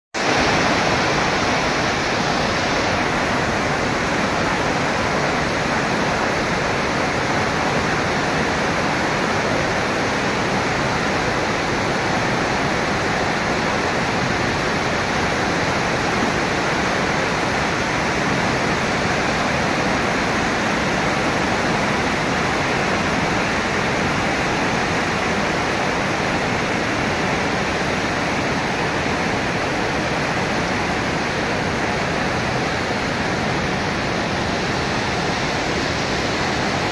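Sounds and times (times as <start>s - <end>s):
floodwater rushing: 0.2s - 36.9s.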